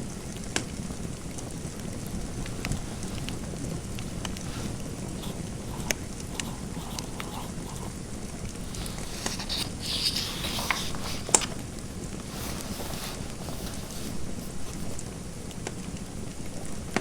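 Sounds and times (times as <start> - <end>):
scratchy hiss: 1.3 - 15.4.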